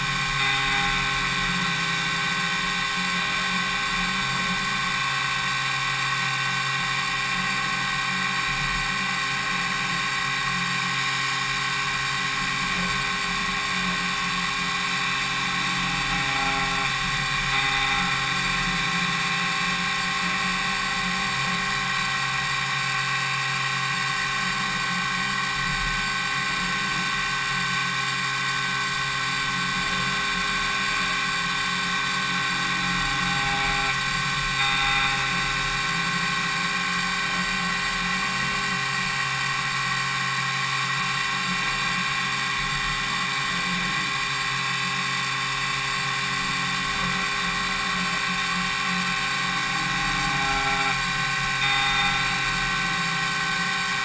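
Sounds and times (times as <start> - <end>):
machining spindle high whine: 0.0 - 54.0.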